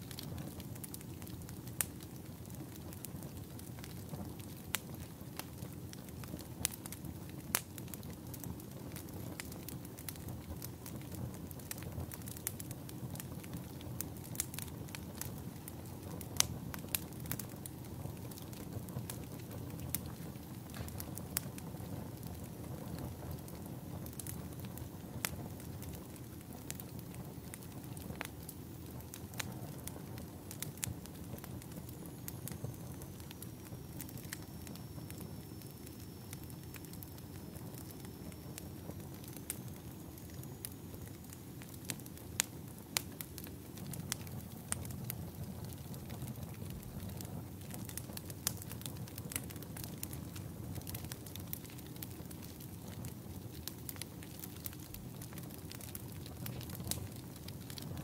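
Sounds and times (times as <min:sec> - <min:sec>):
firewood crackling and popping: 0:00.0 - 0:58.0
wood fire rumble: 0:00.0 - 0:58.0.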